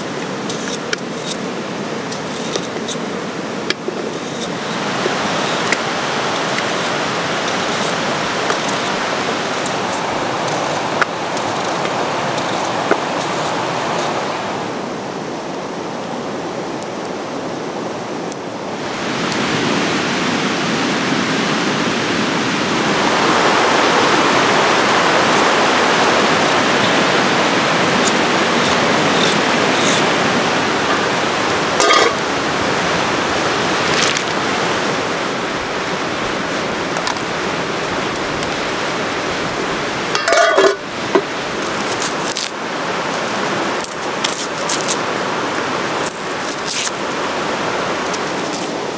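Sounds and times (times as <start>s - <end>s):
river rushing: 0.0s - 48.9s.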